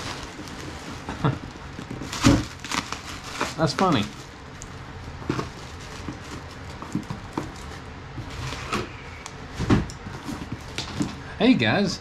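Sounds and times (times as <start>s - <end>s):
cardboard and plastic rustling: 0.0s - 11.3s.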